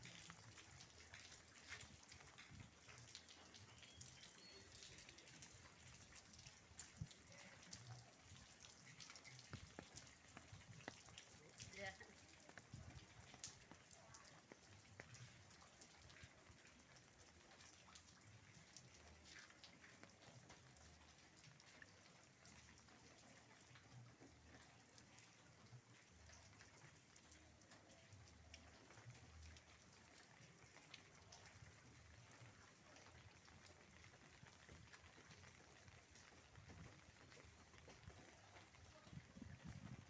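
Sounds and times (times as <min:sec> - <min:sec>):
light rain falling: 0:00.0 - 0:40.0
raindrops ticking on surfaces: 0:00.0 - 0:40.0.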